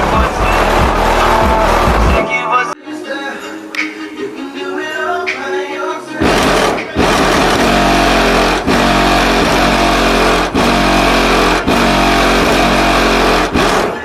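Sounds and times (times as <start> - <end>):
loud bass-heavy music: 0.0 - 14.0.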